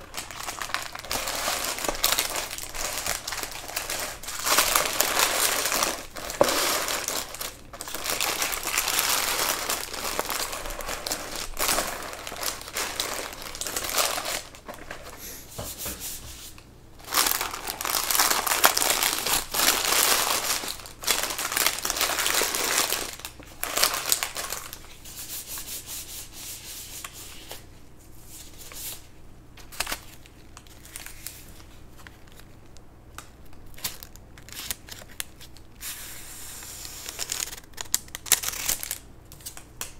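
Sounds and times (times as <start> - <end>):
packaging crinkling: 0.0 - 15.2, 17.0 - 25.0, 29.6 - 35.8, 36.7 - 39.7.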